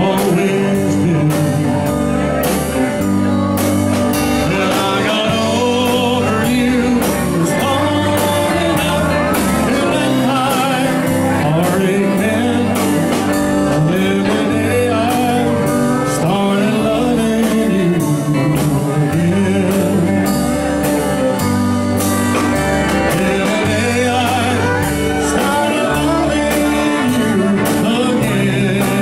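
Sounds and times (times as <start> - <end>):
live country band playing: 0.0 - 29.0
man singing: 0.0 - 29.0.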